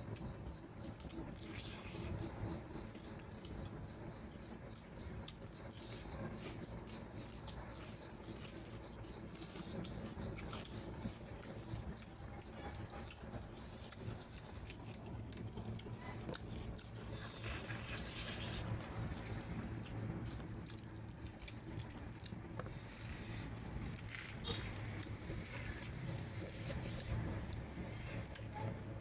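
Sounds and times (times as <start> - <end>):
person chewing and eating: 0.1 - 4.0, 4.7 - 29.0.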